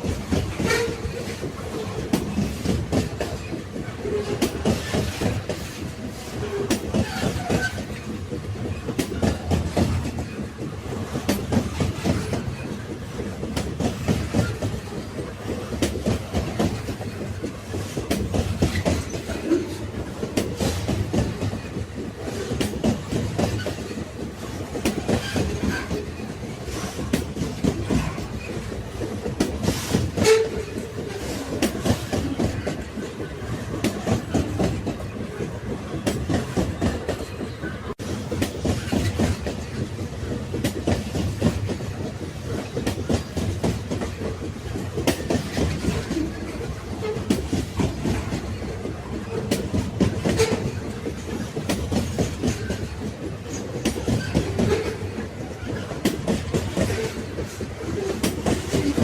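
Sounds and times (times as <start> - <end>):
railway wagons rumbling: 0.0 - 59.0
wheels clicking over rail joints: 0.0 - 59.0.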